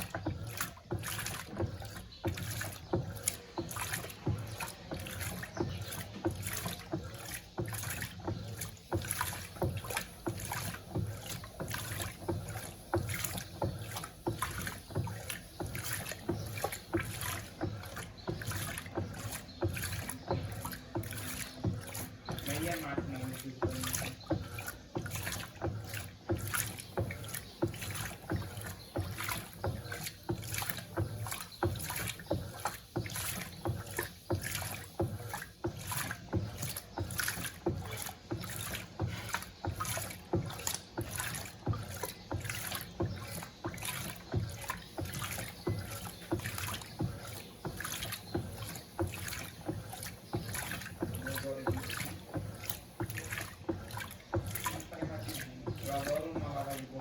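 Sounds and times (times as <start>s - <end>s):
washing machine sloshing: 0.0s - 57.0s.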